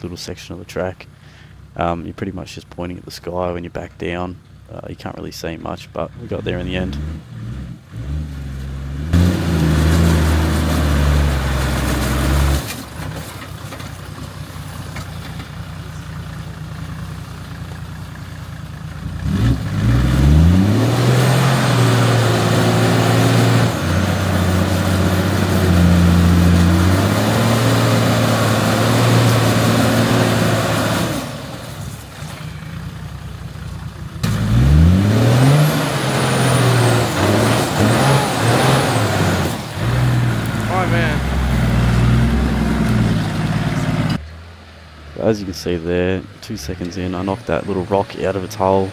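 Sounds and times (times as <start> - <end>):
vehicle engine revving: 0.8 - 48.9.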